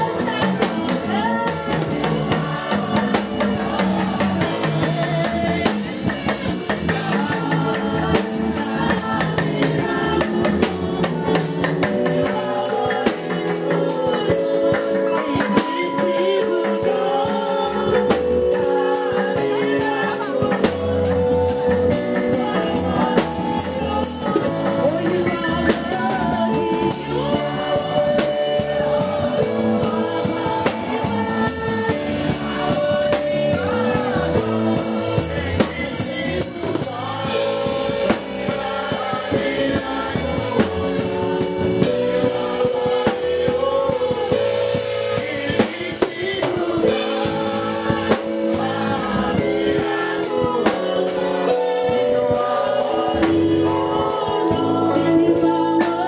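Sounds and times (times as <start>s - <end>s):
gospel worship music: 0.0s - 56.0s
voices singing: 0.0s - 56.0s.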